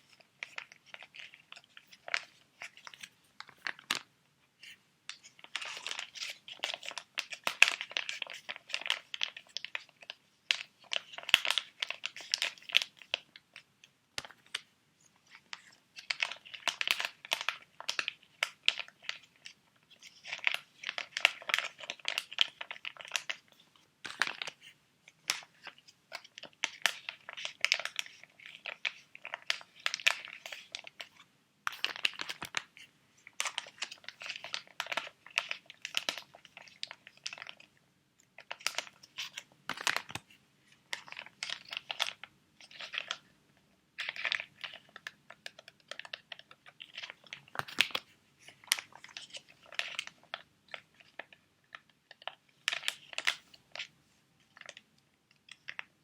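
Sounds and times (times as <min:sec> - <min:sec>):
plastic packets crinkling: 0:00.0 - 0:04.1, 0:05.1 - 0:13.6, 0:15.3 - 0:37.7, 0:38.4 - 0:43.3, 0:44.0 - 0:53.9.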